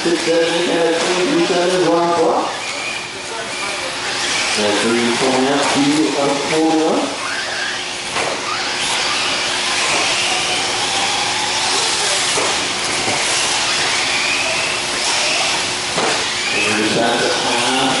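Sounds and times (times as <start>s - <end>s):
rc car motors whining: 0.0s - 18.0s.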